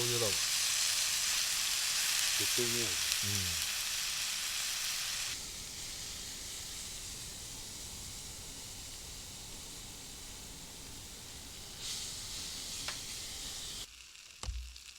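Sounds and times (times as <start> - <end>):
meat sizzling in a pan: 0.0 - 14.9.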